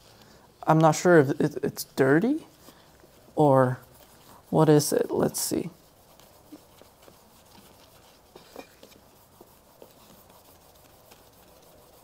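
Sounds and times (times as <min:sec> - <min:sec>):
cloth rubbing on metal: 0:00.0 - 0:12.0.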